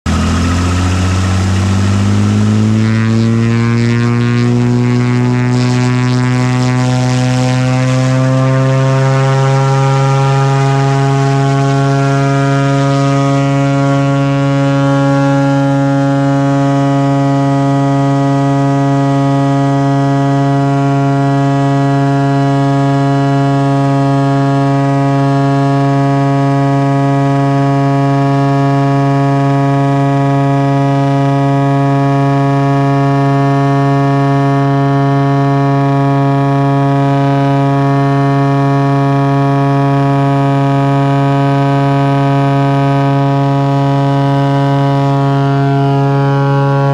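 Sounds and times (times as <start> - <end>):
plane engine and propeller drone: 0.1 - 46.9.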